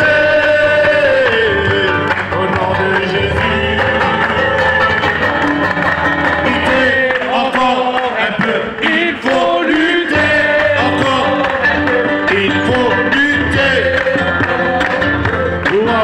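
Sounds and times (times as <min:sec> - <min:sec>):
man singing through loudspeaker: 0:00.0 - 0:05.0, 0:06.3 - 0:16.0
people singing along: 0:00.0 - 0:05.4, 0:06.2 - 0:16.0
acoustic guitar: 0:00.0 - 0:16.0
people clapping: 0:00.0 - 0:16.0.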